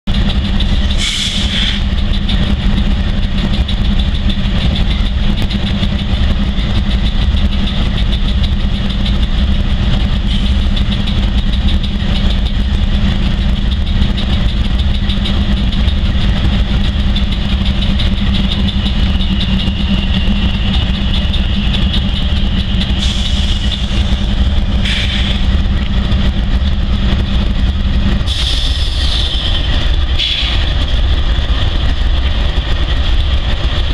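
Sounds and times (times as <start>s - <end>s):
locomotive engine drone: 0.0s - 33.9s
steady high whine: 0.1s - 33.9s.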